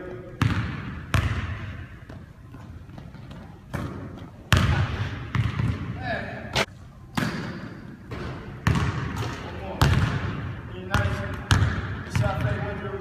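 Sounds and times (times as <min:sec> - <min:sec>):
basketball bouncing on gym floor: 0:00.4 - 0:06.0, 0:07.2 - 0:12.7.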